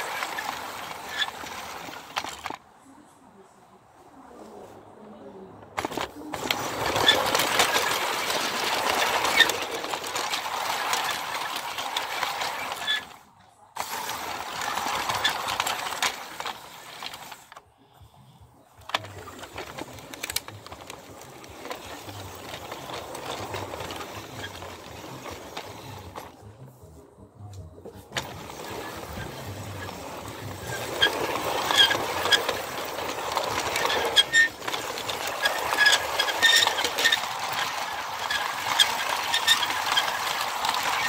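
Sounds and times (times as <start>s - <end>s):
model train motor whirring: 0.0s - 2.6s, 5.8s - 17.6s, 18.8s - 26.4s, 28.1s - 41.0s.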